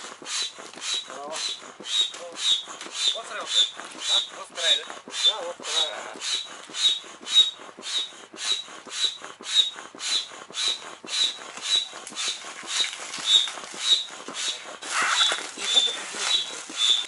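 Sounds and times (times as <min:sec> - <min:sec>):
hand air pump hissing: 0:00.0 - 0:17.0.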